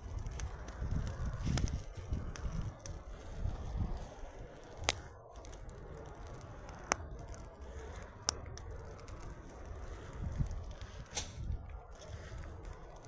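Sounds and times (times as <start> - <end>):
campfire crackling: 0.0 - 13.0
sharp fire pops: 0.0 - 13.0.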